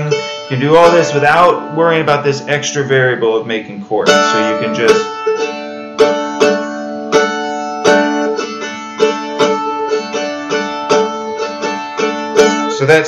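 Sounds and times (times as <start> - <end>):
mandolin strummed and picked: 0.0 - 13.0.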